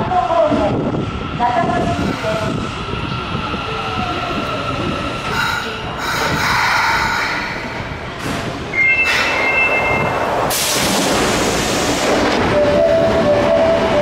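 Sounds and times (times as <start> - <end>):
rush of train noise: 0.0 - 14.0
subway train rumbling: 0.0 - 14.0.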